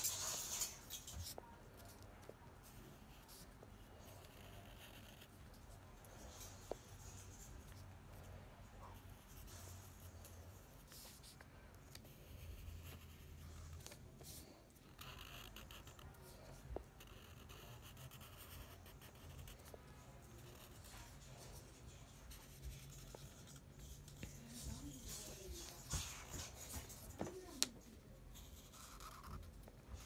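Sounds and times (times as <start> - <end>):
marker rubbing on paper: 0.0 - 8.2, 8.8 - 27.6, 28.3 - 30.0.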